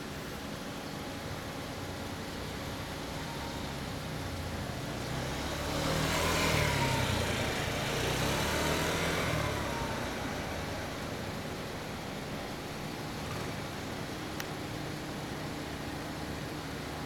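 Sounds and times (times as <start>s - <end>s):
scooter engine idling: 0.8s - 17.0s.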